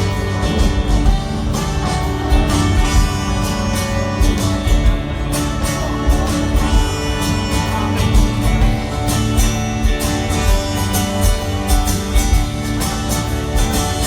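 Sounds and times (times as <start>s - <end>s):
bass: 0.0s - 14.0s
drums: 0.0s - 14.0s
strummed acoustic guitar: 0.0s - 14.0s.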